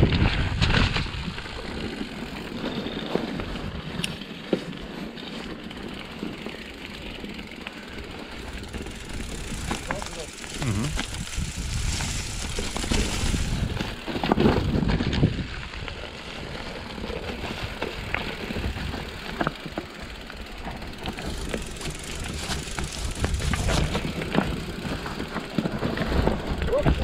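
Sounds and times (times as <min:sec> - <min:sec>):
bike knocking and rattling: 0:00.0 - 0:27.0
bike tyres crunching over leaves: 0:00.0 - 0:27.0.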